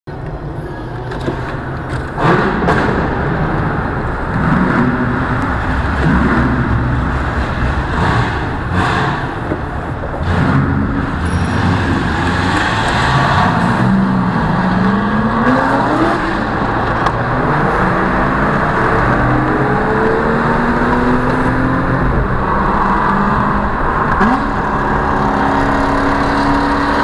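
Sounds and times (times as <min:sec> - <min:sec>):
car engine and road noise: 0:00.1 - 0:27.0.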